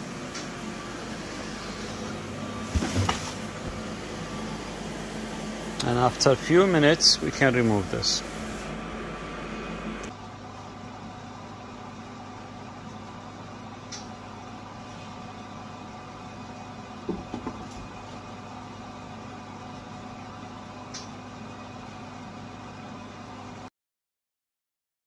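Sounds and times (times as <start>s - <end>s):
vacuum pump humming: 0.0s - 23.6s.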